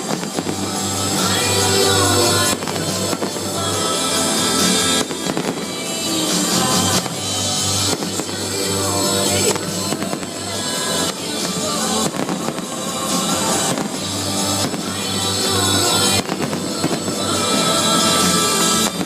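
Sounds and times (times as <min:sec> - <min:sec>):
fireworks crackling and bursting: 0:00.0 - 0:19.0
loud show music: 0:00.0 - 0:19.0.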